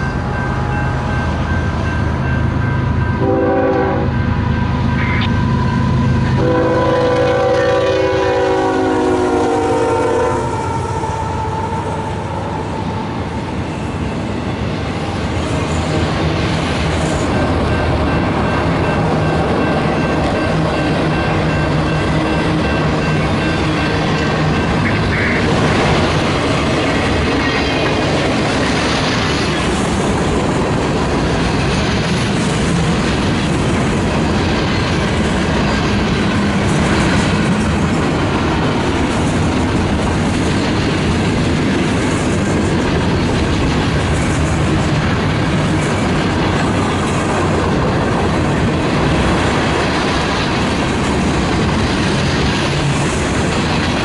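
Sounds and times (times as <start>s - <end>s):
train wheels rolling on rail: 0.0s - 54.0s.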